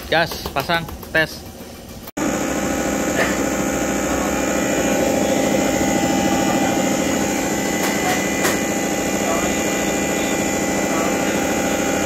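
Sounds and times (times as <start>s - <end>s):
injector pulsing: 2.2s - 12.0s
pump droning: 2.2s - 12.0s.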